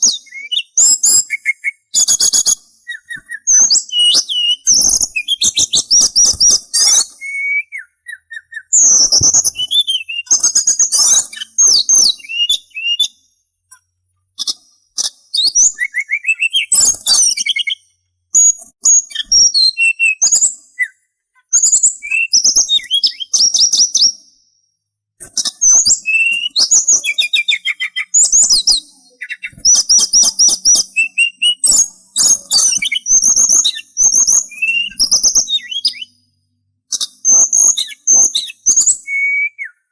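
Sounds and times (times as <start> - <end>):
songbird singing: 0.0 - 24.4, 25.2 - 39.9.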